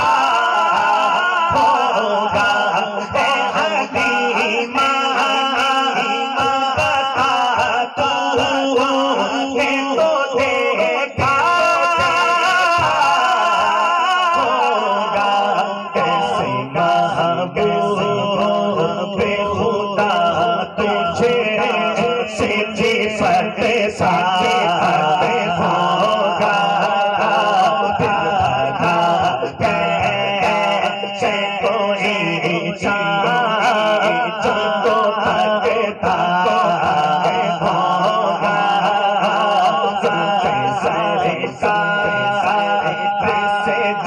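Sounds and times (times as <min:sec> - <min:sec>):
man singing into a microphone: 0:00.0 - 0:44.0.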